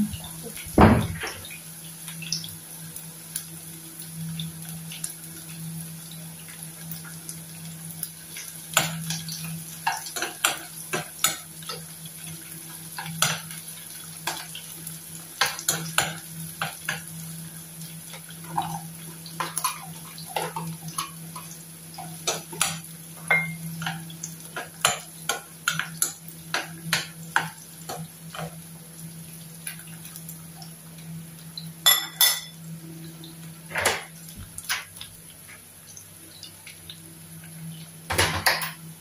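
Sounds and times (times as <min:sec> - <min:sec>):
onions sizzling in oil: 0:00.0 - 0:38.2.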